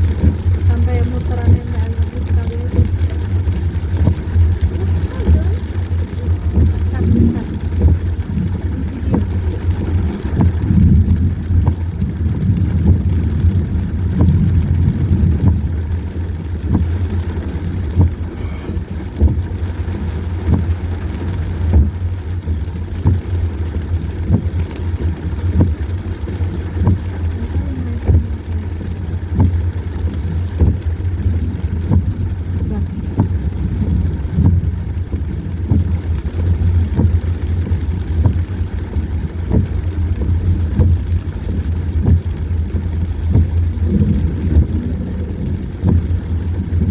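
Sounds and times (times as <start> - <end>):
engine and road noise: 0.0 - 46.9
rain tapping and knocking: 0.0 - 46.9.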